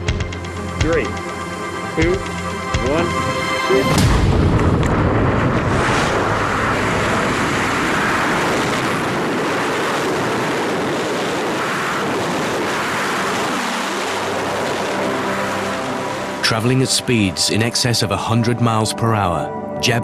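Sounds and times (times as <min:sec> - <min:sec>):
loud wind rush: 0:00.0 - 0:17.2.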